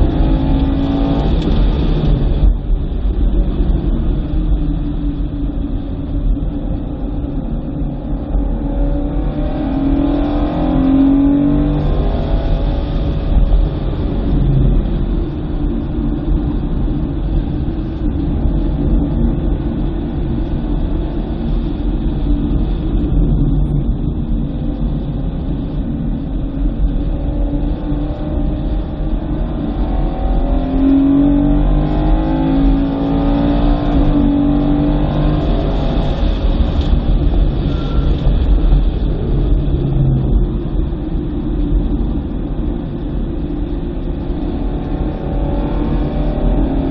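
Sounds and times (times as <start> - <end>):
car engine accelerating: 0.0 - 46.9
low rumble: 0.0 - 46.9.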